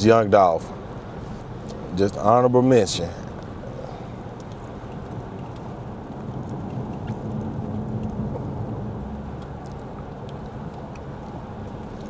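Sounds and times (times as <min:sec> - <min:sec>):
rain ticking: 0:00.0 - 0:12.0
tyre and road noise: 0:00.0 - 0:12.0.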